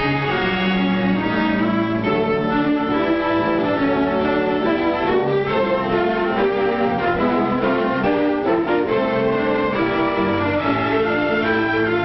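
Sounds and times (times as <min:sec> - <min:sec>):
orchestral strings melody: 0:00.0 - 0:12.0.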